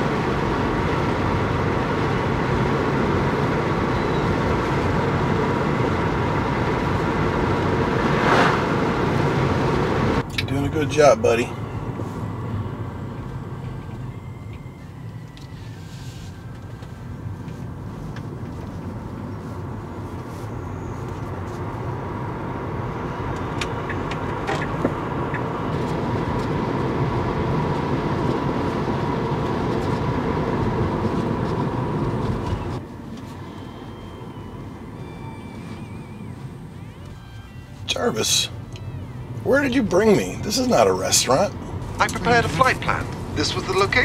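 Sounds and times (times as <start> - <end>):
road and tyre noise in car: 0.0 - 44.0.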